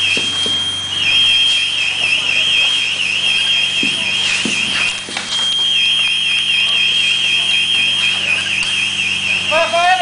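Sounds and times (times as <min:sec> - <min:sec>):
high-pitched warbling alarm: 0:00.0 - 0:10.0.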